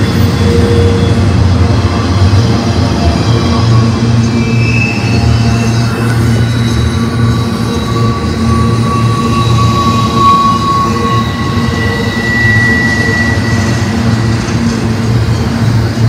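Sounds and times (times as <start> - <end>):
high wheel squeal: 0.0 - 16.0
train wheels rumbling on rail: 0.0 - 16.0.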